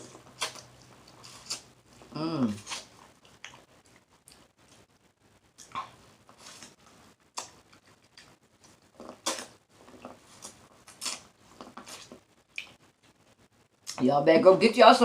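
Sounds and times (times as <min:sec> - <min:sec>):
eating corn on the cob: 0:00.0 - 0:13.2.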